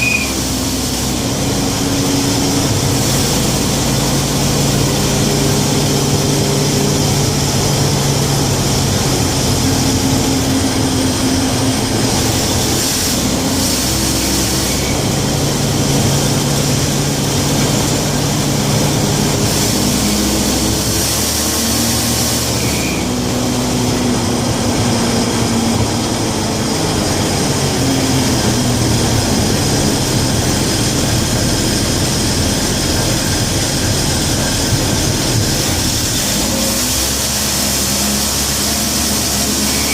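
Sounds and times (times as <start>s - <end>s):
driving noise: 0.0s - 39.9s
van engine running: 0.0s - 39.9s.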